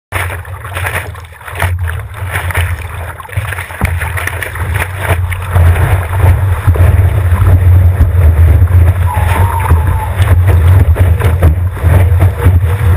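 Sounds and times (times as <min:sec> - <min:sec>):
water rushing and splashing: 0:00.1 - 0:12.9
wind buffeting microphone: 0:01.7 - 0:12.9.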